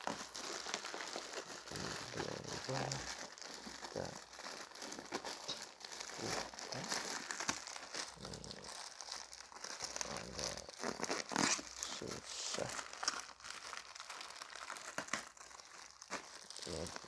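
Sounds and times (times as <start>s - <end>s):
plastic bag crinkling and tearing: 0.0s - 17.0s.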